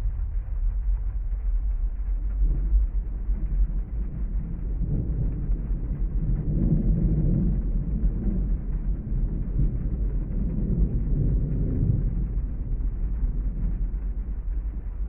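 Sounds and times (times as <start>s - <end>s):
distant thunder roll: 0.0s - 15.0s
rain: 0.0s - 15.0s
steady deep rumble: 0.0s - 15.0s.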